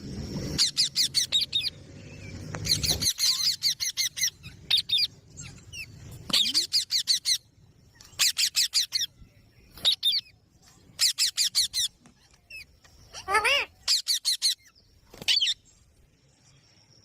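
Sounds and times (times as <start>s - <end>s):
parakeet calling: 0.5s - 10.3s, 11.0s - 15.6s.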